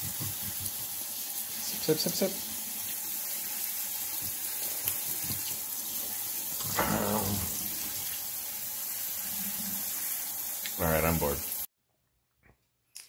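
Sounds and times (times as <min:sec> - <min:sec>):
faucet spraying water on rice: 0:00.0 - 0:11.7.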